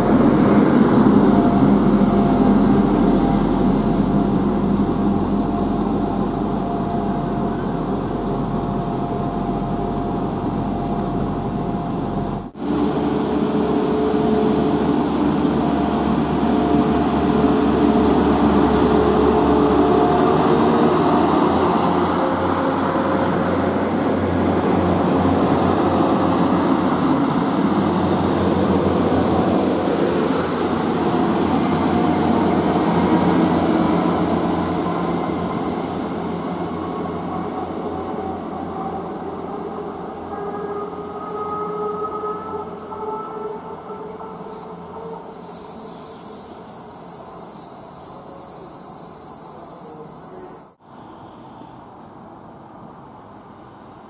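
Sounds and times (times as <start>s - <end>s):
high whine: 0.0s - 50.8s.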